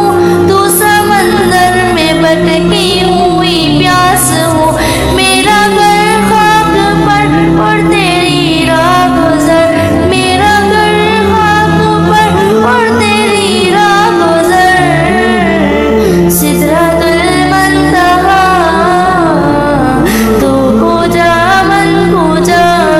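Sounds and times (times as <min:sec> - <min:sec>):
person singing devotional song: 0:00.0 - 0:22.9
sustained low accompaniment: 0:00.0 - 0:22.9.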